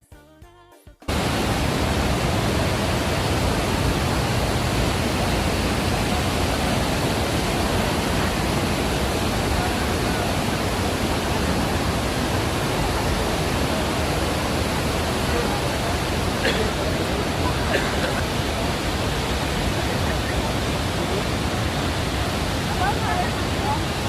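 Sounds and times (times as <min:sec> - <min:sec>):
waterfall rushing: 0:01.1 - 0:24.0.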